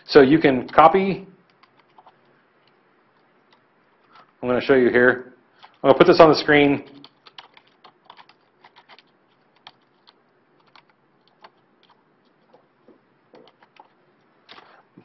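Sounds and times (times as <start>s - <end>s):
faint keyboard typing: 0.5s - 4.4s, 5.5s - 6.0s, 6.8s - 15.0s.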